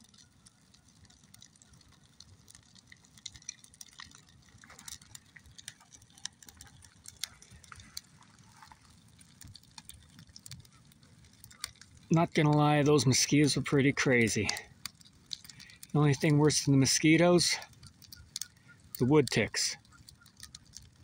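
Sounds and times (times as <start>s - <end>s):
campfire crackling: 0.0s - 21.0s
fire pops and ticks: 0.0s - 21.0s.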